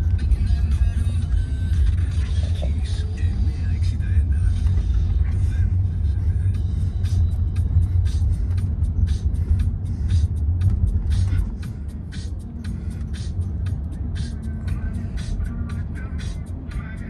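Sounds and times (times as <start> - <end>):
background music: 0.0 - 17.0
car driving rumble from inside: 0.0 - 17.0.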